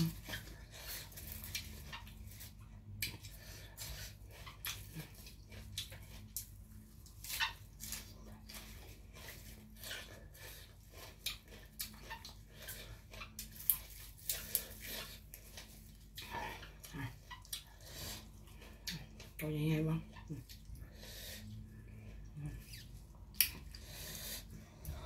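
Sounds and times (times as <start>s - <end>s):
person chewing: 0.0s - 19.4s, 20.1s - 25.0s
faint steady hum: 0.0s - 25.0s.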